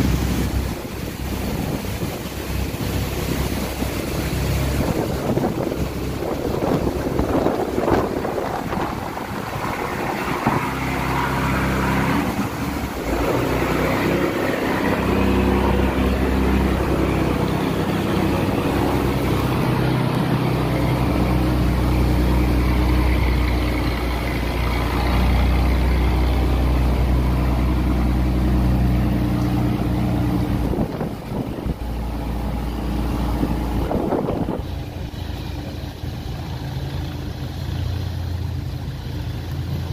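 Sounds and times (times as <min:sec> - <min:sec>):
boat engine running: 0:00.0 - 0:39.9
rain hiss: 0:00.0 - 0:39.9
wind: 0:00.0 - 0:39.9.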